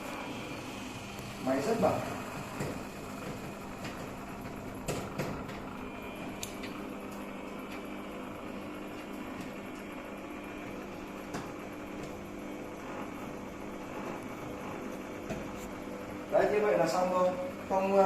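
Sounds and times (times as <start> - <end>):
washing machine spinning: 0.0 - 18.0.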